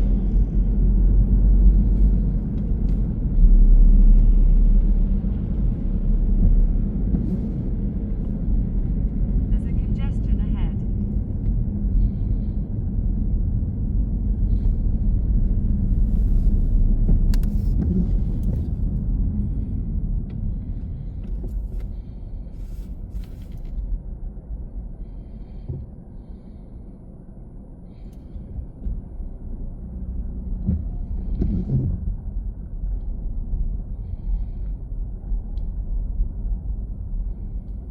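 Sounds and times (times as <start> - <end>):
car road and engine rumble: 0.0 - 37.9.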